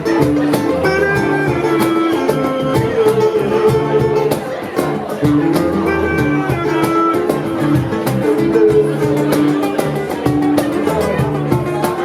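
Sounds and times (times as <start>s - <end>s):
live soul band instrumental: 0.0s - 12.0s.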